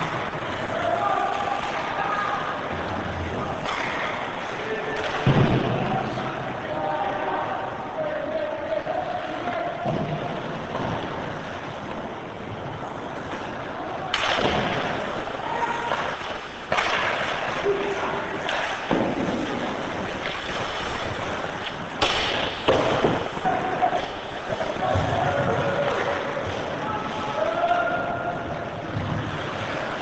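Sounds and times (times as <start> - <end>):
skates scraping on ice: 0.0 - 30.0
spectators' voices: 0.0 - 30.0.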